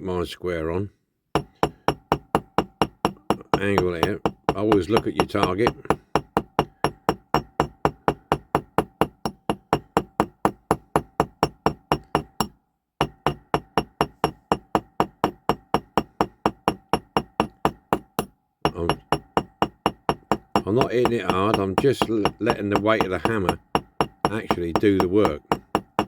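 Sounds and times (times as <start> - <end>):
hammer tapping on metal: 1.4 - 26.0.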